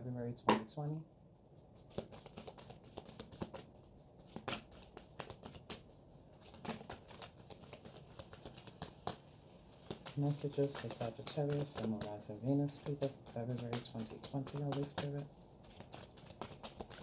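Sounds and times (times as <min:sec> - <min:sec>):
cards being shuffled: 0:01.8 - 0:17.0.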